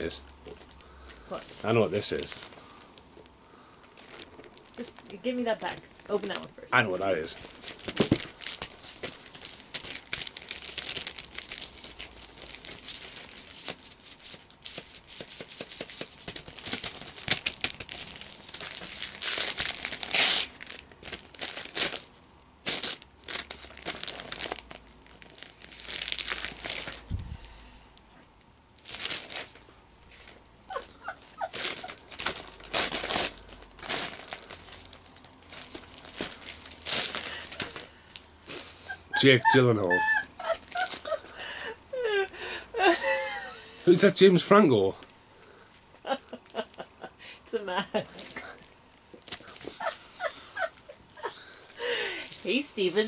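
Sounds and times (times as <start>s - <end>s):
wrapping paper rustling and tearing: 0.4s - 27.7s, 28.8s - 38.6s, 39.2s - 41.2s, 48.1s - 53.0s.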